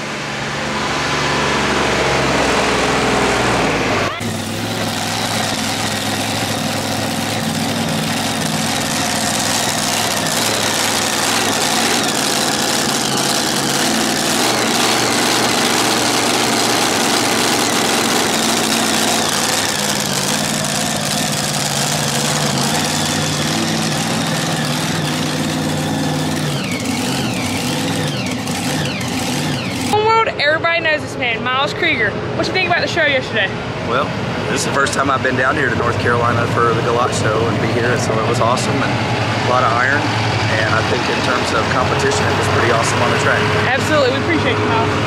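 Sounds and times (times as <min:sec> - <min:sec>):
tractor engine idling: 0:03.0 - 0:45.0.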